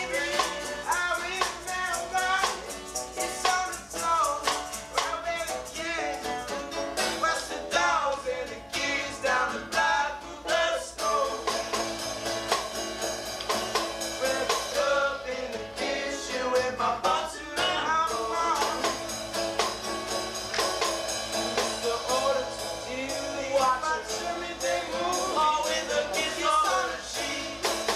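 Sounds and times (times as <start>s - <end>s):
men singing: 0.0s - 12.0s, 14.0s - 19.2s, 21.3s - 27.9s
acoustic guitar strumming: 0.0s - 27.9s
banjo: 0.0s - 27.9s
hand-played snare drum: 0.0s - 27.9s.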